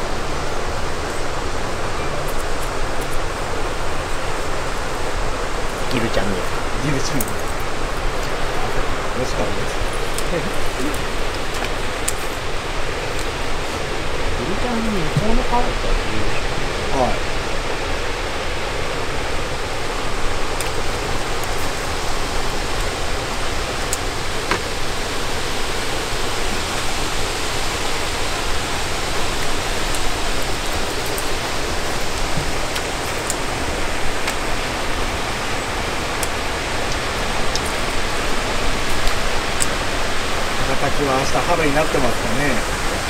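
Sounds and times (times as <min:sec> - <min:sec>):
steady rushing noise: 0:00.0 - 0:43.0.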